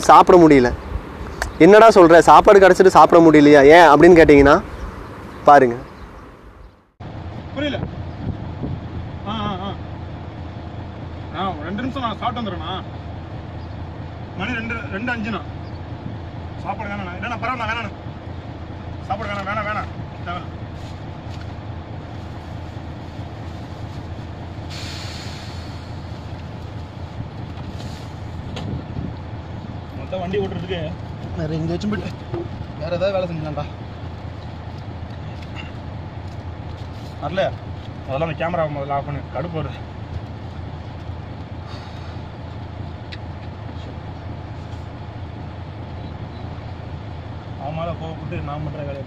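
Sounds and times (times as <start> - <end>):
truck engine rumbling: 0.0 - 49.0.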